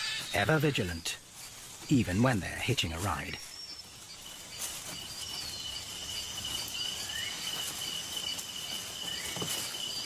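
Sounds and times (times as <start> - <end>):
faint insect chirps: 0.0 - 10.0
insect trilling: 0.0 - 10.0.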